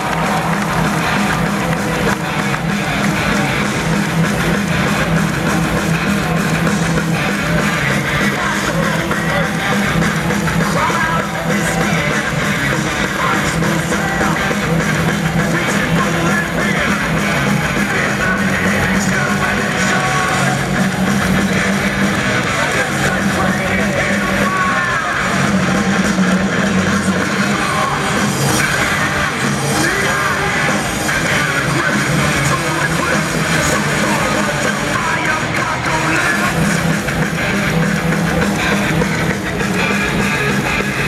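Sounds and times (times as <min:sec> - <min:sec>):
rock music over loudspeakers: 0:00.0 - 0:41.0.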